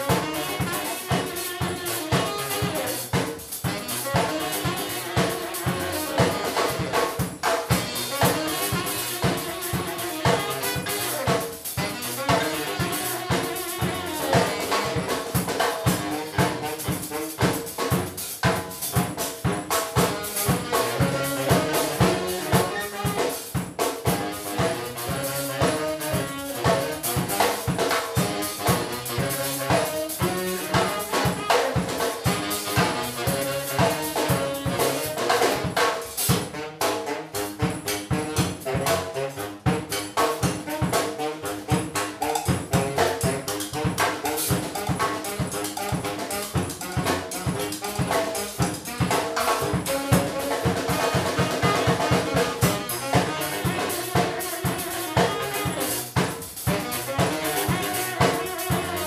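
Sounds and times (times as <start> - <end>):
drum kit: 0.0 - 59.0
saxophones playing: 0.0 - 59.0.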